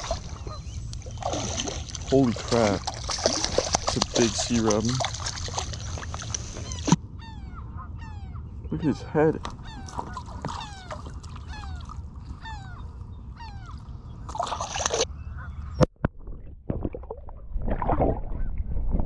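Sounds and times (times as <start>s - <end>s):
bird calling: 0.0s - 15.8s.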